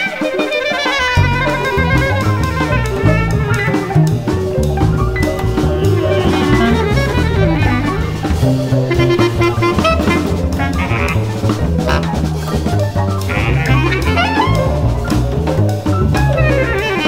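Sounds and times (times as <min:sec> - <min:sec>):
bass clarinet solo: 0:00.0 - 0:17.0
jazz ensemble with drum kit: 0:00.0 - 0:17.0.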